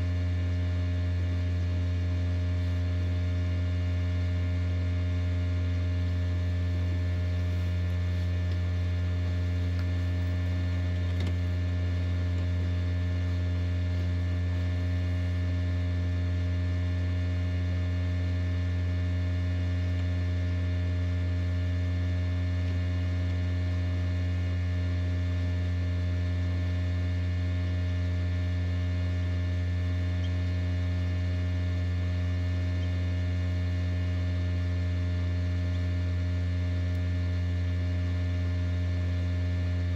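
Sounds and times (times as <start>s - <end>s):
fan motor humming: 0.0s - 39.9s.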